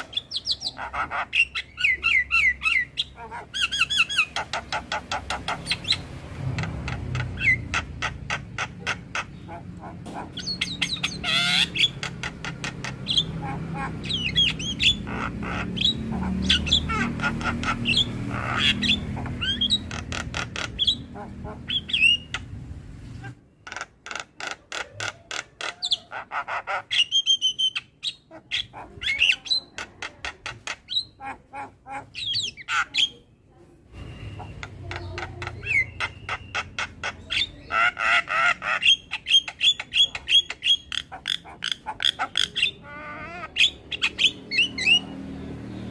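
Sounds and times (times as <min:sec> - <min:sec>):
bird singing and chattering: 0:00.0 - 0:33.4, 0:34.0 - 0:45.9.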